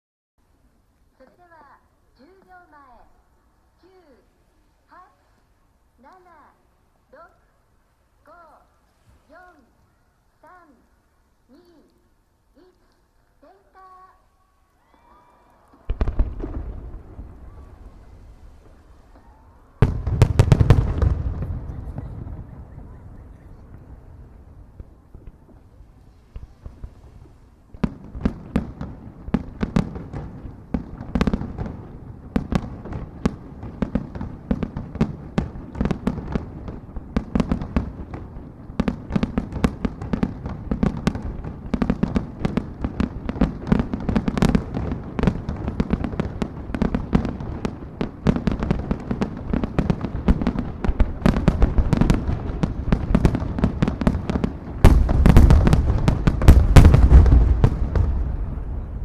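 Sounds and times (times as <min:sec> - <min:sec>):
fireworks bursting: 0:08.3 - 0:59.0.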